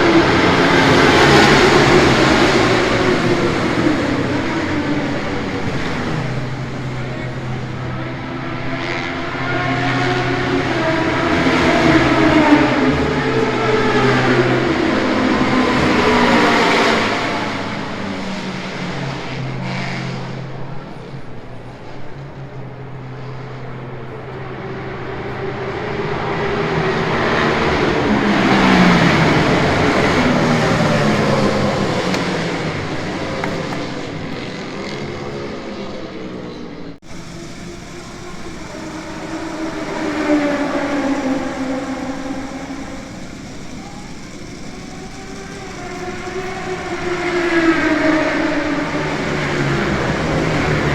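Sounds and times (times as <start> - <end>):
racing motorcycles passing: 0.0 - 50.9.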